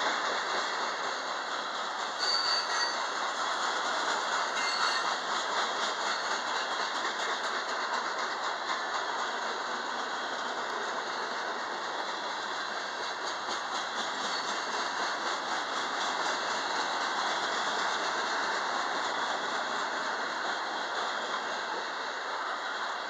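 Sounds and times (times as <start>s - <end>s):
freight train wheels rumbling: 0.0s - 23.0s
rapid clicking of train wheels: 0.0s - 23.0s.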